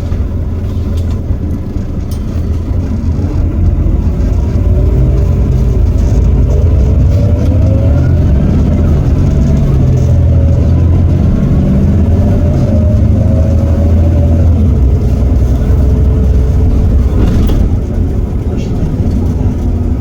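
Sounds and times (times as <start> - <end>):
bus diesel engine rumble: 0.0 - 20.0
gearbox whine: 0.0 - 20.0.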